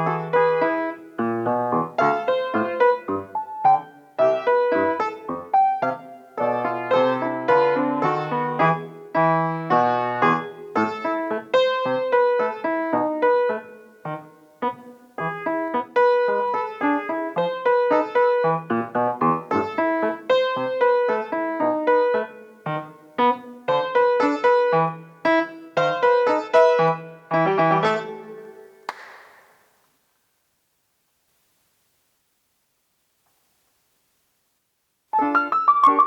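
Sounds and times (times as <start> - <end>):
solo piano piece: 0.0 - 28.9, 35.1 - 36.0.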